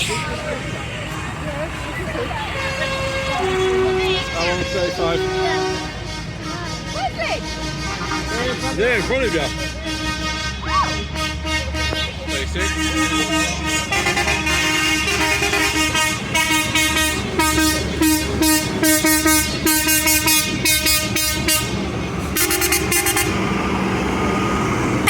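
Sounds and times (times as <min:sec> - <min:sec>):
vehicle horns tooting: 0:00.0 - 0:24.0
low engine hum: 0:00.0 - 0:25.0.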